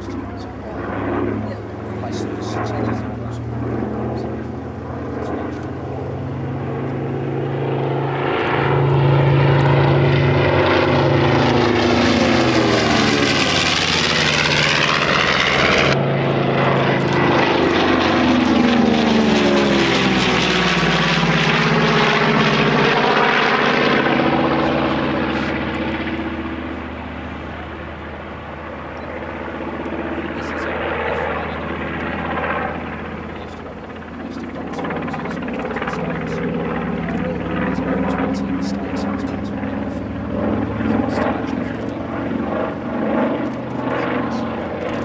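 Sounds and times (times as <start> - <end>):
propeller plane engines droning: 0.0 - 45.0.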